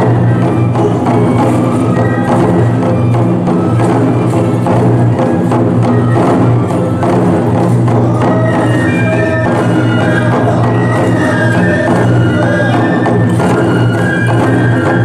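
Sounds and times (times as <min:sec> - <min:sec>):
bamboo flutes melody: 0:00.0 - 0:15.0
taiko drums beating: 0:00.0 - 0:15.0.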